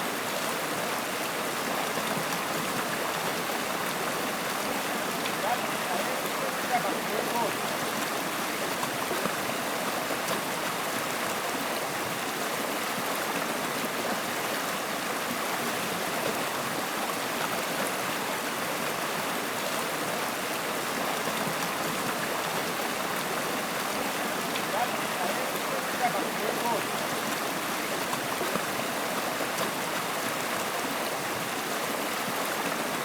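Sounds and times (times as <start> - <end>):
flowing water babbling: 0.0 - 33.0.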